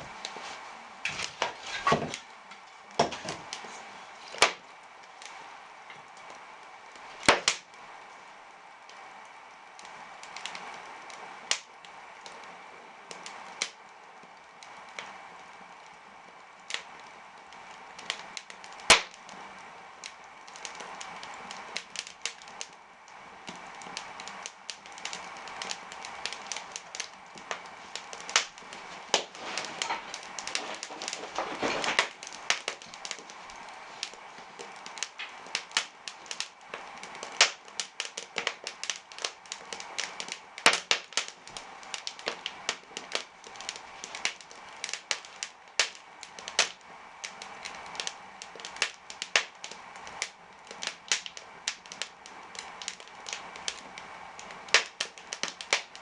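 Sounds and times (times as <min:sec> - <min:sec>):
firewood crackling and popping: 0:00.0 - 0:56.0
low hiss of fire: 0:00.0 - 0:56.0.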